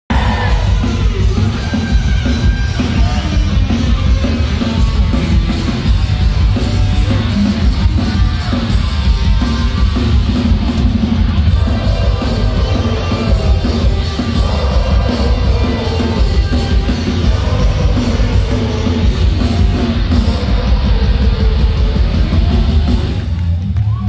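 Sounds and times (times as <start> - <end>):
punk band playing live: 0.1 - 24.0.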